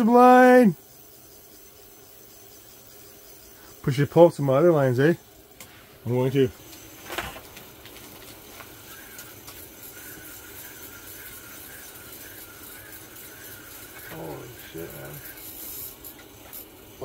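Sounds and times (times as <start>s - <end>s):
fishing reel whirring: 0.0s - 5.4s, 6.1s - 17.0s.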